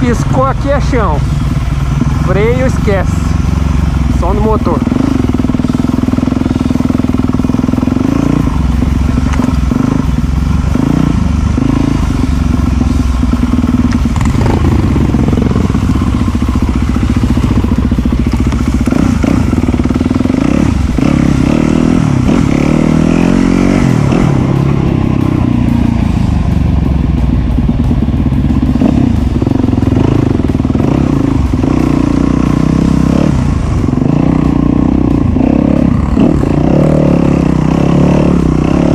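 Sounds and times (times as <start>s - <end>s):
dirt bike engine revving: 0.0s - 26.7s, 27.3s - 38.9s.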